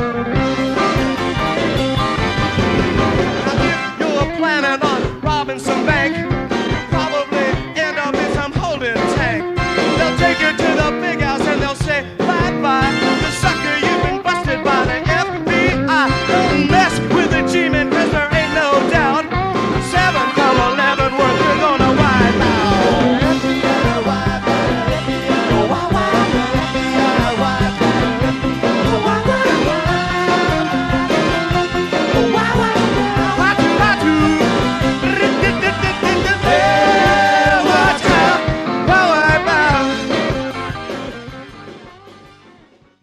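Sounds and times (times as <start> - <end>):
rock band playing: 0.0 - 43.0
person singing: 2.6 - 40.3.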